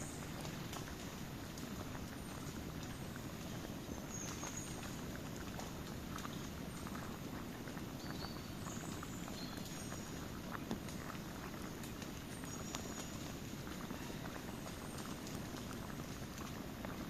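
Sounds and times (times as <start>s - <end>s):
campfire flame rushing: 0.0s - 17.0s
fire crackles and pops: 0.0s - 17.0s.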